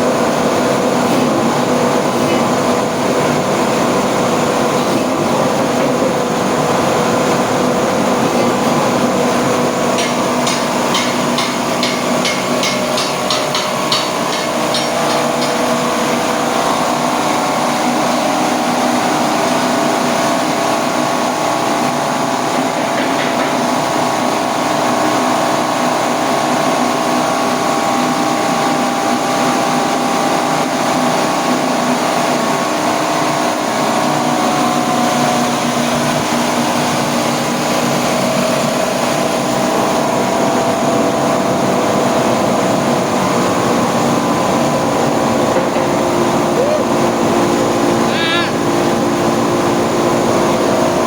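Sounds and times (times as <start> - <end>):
electric press machine running: 0.0 - 51.0.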